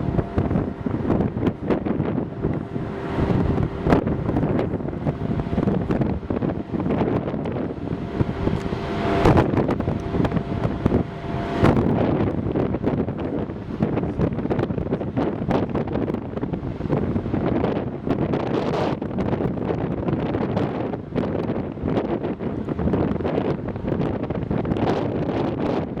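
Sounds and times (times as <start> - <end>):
faint steady hum: 0.0 - 24.2
wind buffeting microphone: 0.0 - 26.0.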